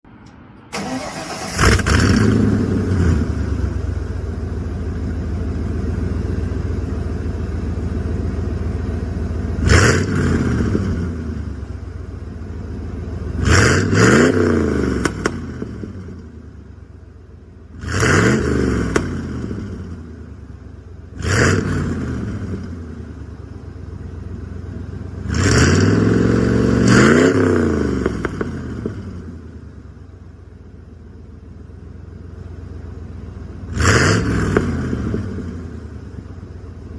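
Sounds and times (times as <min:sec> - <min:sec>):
pickup engine idling and revving: 0:00.1 - 0:36.9.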